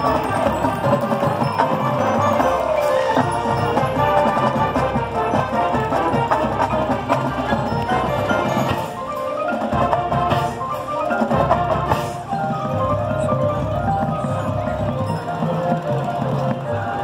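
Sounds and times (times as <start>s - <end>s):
marching band playing: 0.0s - 17.0s
marimbas and xylophone running notes: 0.0s - 17.0s.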